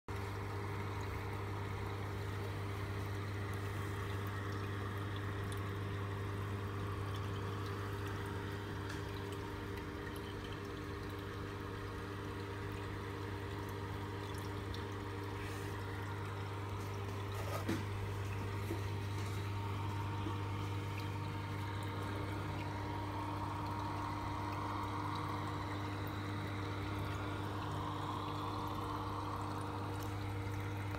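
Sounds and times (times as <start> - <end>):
aquarium pumps humming: 0.1 - 30.9
water trickling and splashing: 0.1 - 30.9.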